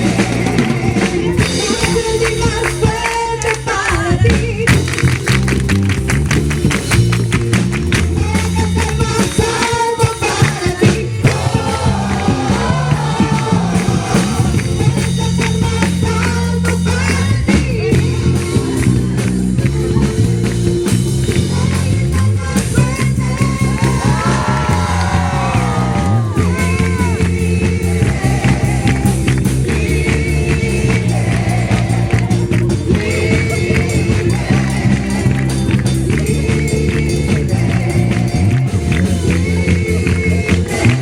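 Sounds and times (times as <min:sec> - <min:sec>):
person singing worship song: 0:00.0 - 0:04.9, 0:08.2 - 0:20.3, 0:21.3 - 0:41.0
band with steady beat: 0:00.0 - 0:41.0.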